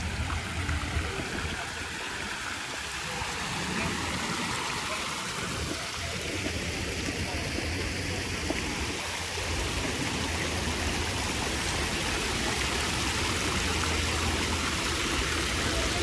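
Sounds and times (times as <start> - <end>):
rush of falling water: 0.0 - 16.0.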